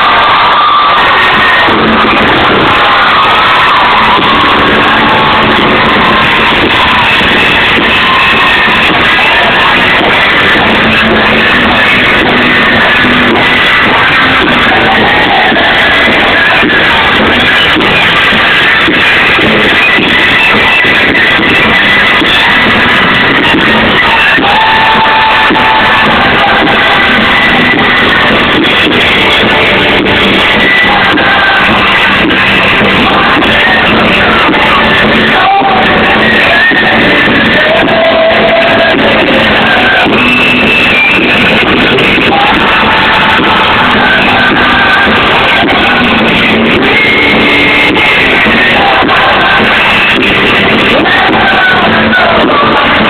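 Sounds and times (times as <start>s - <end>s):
loud distorted music with singing: 0.0s - 53.0s.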